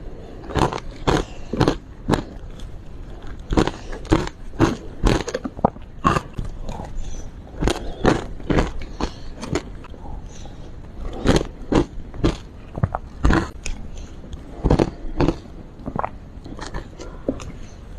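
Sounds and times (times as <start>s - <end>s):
biting and crunching ice: 0.1s - 10.0s, 10.9s - 17.5s.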